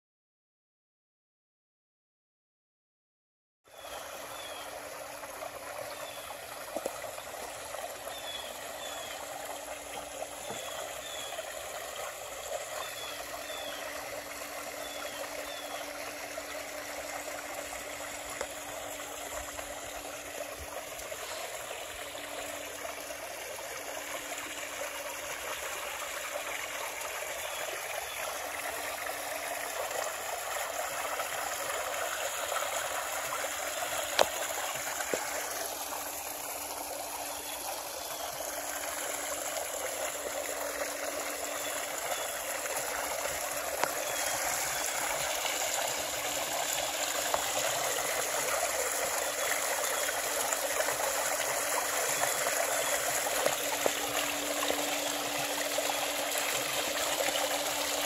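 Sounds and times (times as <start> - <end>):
waterfall splashing into pool: 4.3 - 58.0.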